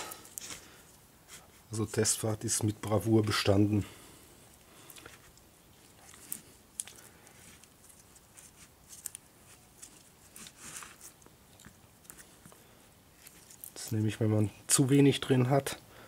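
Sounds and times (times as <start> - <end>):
glove and rubber rustling: 0.0 - 4.0, 4.6 - 14.2.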